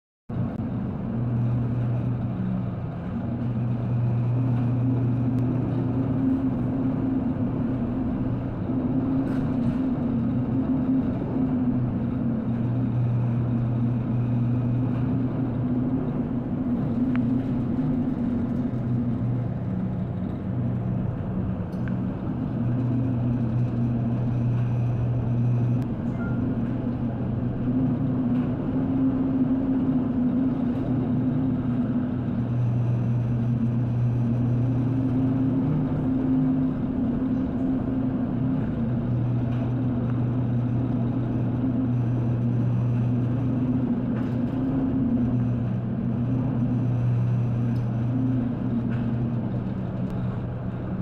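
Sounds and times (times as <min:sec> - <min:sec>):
ship engine hum: 0:00.3 - 0:51.0
wind and sea rushing: 0:00.3 - 0:51.0.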